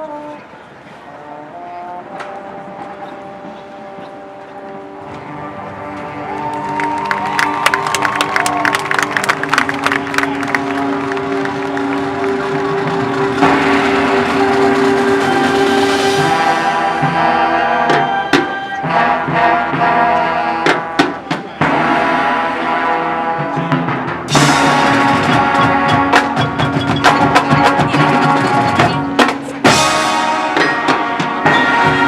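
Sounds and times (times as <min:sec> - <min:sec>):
marching band playing: 0:00.0 - 0:32.0.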